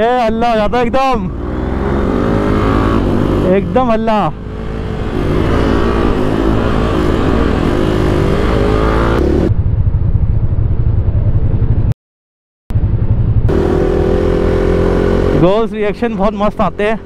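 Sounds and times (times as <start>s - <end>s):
motorcycle engine running: 1.2s - 11.9s, 12.8s - 17.0s.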